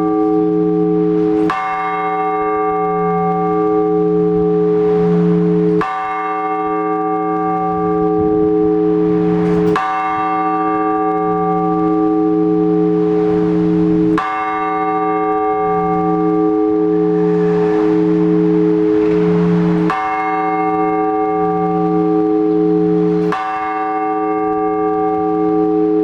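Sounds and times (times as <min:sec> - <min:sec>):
church bell ringing: 0:00.0 - 0:26.0.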